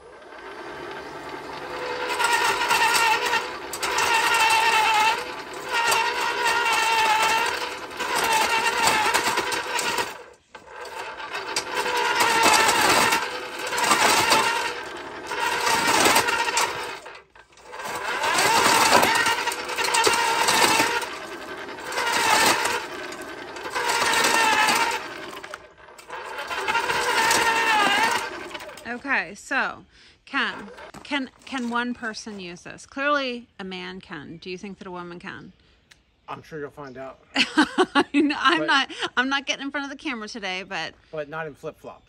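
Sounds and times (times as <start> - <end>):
earth auger motor whining: 0.0 - 32.5, 37.4 - 41.0.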